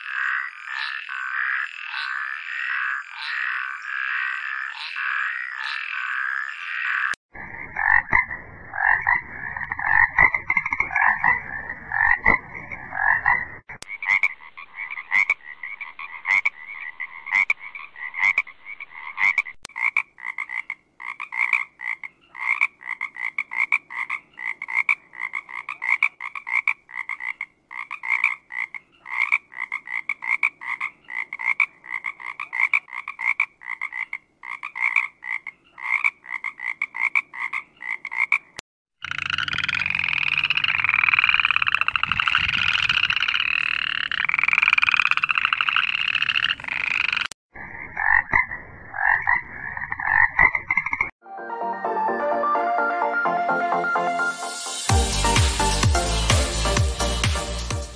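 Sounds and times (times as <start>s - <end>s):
chorus of frogs: 0.0s - 51.2s
frog croaks: 0.0s - 51.2s.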